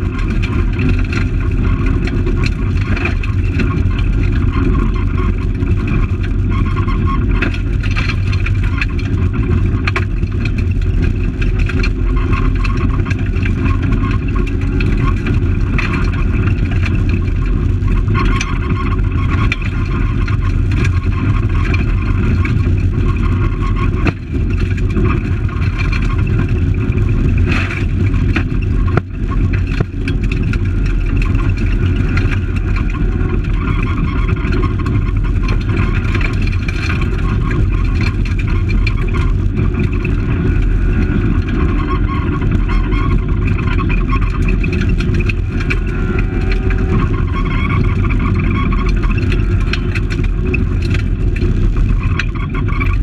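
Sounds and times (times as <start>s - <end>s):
rally car engine running hard: 0.0s - 53.0s
rattles: 0.0s - 53.0s.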